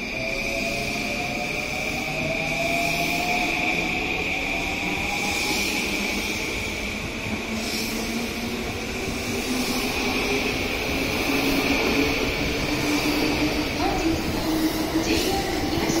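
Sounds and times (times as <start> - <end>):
train cars rumbling on rails: 0.0 - 16.0.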